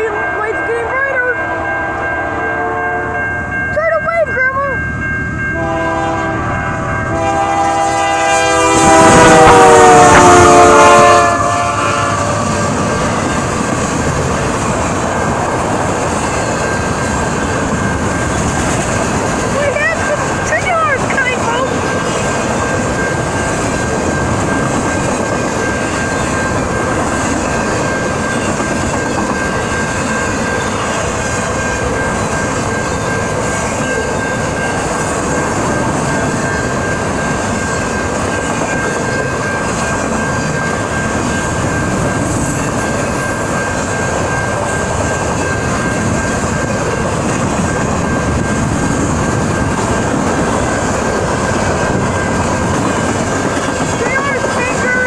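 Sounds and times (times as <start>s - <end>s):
train wheels on track: 0.0s - 55.0s.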